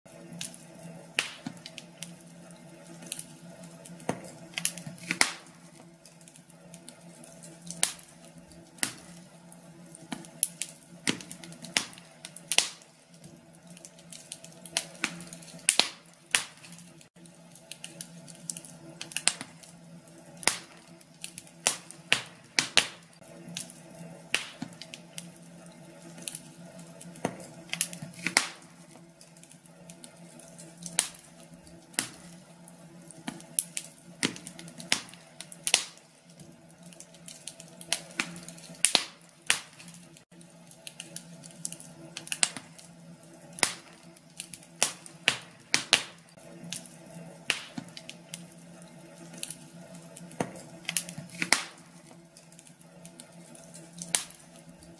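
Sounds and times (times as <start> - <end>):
wood fire crackling: 0.1 - 54.9.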